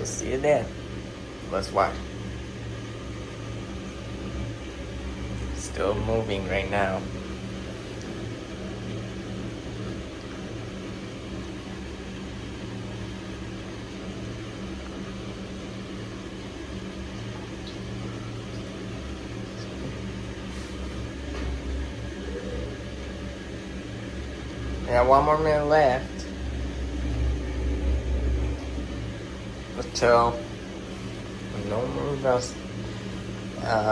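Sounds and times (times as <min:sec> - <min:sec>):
washing machine drum whirring: 0:00.0 - 0:33.9.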